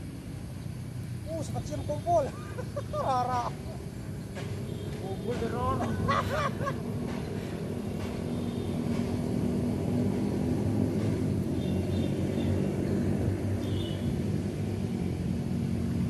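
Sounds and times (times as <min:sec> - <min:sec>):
low engine drone: 0:02.5 - 0:16.0.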